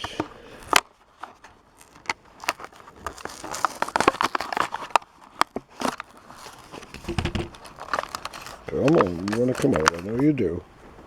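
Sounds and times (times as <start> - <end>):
plastic and cardboard packaging crackling: 0.0 - 11.0.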